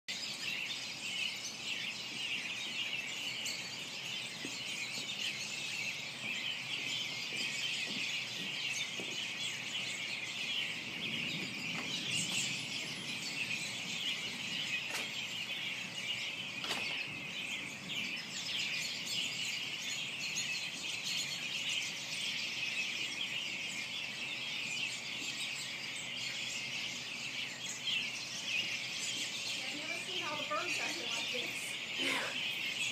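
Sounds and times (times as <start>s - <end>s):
flock of birds chirping: 0.1s - 32.9s.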